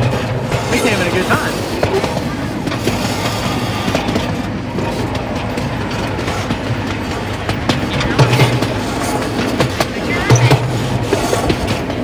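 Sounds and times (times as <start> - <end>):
train cars rattling: 0.0 - 12.0.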